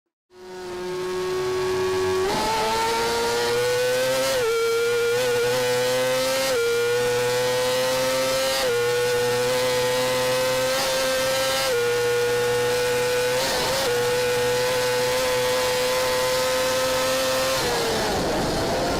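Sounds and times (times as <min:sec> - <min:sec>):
motorcycle engine revving: 0:00.3 - 0:18.9.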